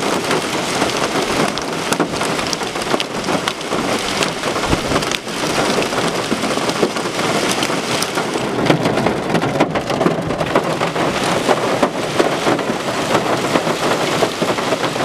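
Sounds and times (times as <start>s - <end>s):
heavy rain and hail: 0.0s - 15.0s.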